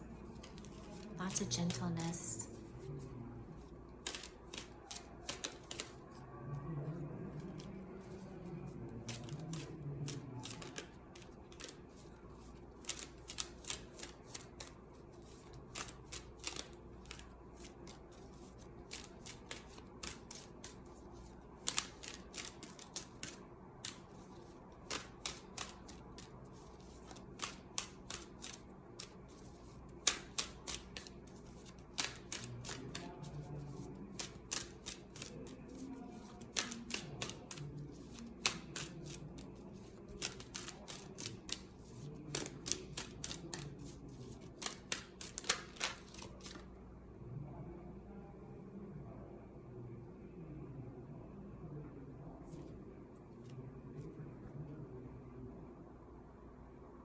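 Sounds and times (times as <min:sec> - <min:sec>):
cards being shuffled: 0:00.2 - 0:46.7.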